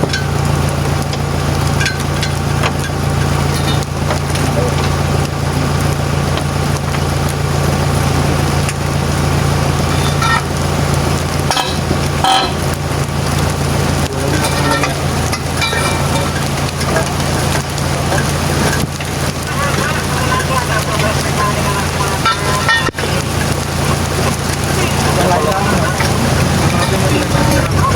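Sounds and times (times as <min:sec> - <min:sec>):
constant hiss: 0:00.0 - 0:27.9
diesel truck engine idling: 0:00.0 - 0:27.9.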